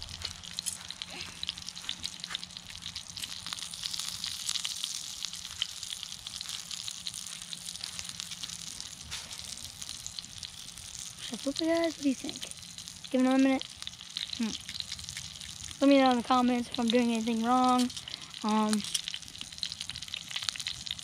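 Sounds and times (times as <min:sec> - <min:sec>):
steak sizzling in a skillet: 0:00.0 - 0:21.0.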